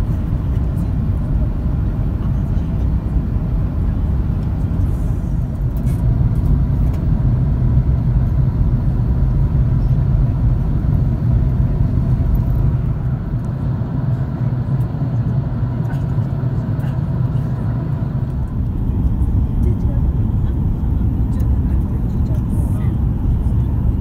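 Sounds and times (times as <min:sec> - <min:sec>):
aircraft engines rumbling: 0:00.0 - 0:24.0
airflow over fuselage: 0:00.0 - 0:24.0.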